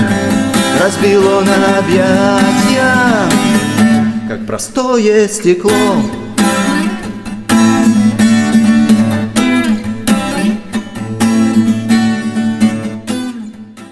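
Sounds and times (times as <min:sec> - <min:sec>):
acoustic guitar strumming: 0:00.0 - 0:13.9.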